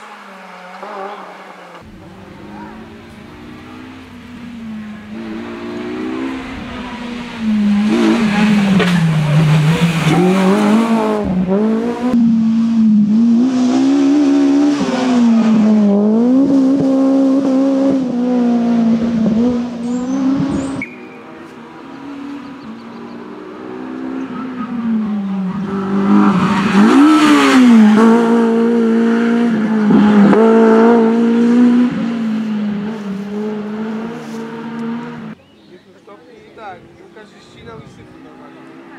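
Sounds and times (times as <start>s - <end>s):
car engine revving hard: 0.7s - 35.4s.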